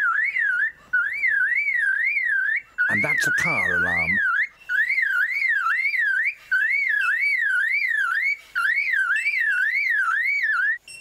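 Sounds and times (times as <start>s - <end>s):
bird mimicking car alarm: 0.0s - 10.8s.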